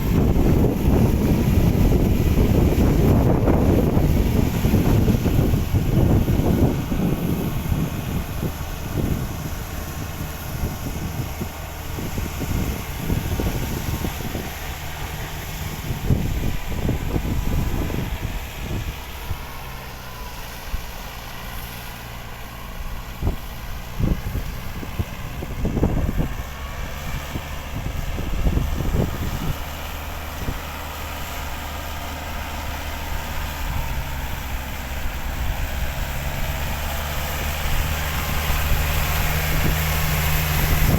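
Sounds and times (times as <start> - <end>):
tractor engine running: 0.0 - 40.9
wind buffeting microphone: 0.0 - 40.9.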